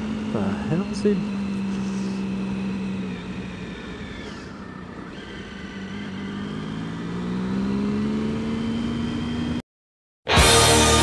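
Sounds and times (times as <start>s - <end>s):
motorcycle engine revving: 0.0s - 9.6s, 10.3s - 11.0s.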